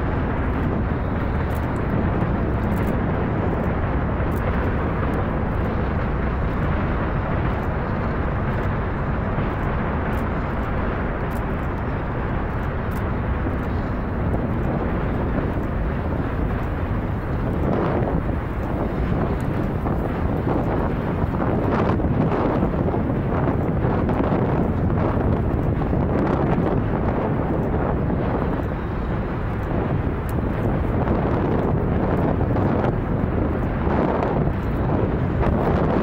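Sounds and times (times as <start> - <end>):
rocket engines rumbling: 0.0 - 36.0.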